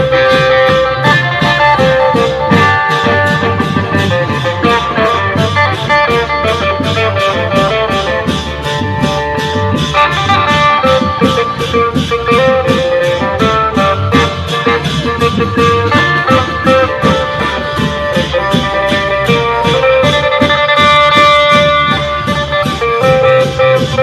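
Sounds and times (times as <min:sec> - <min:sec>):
long-drum band: 0:00.0 - 0:24.0
sharp percussion strokes: 0:00.0 - 0:24.0.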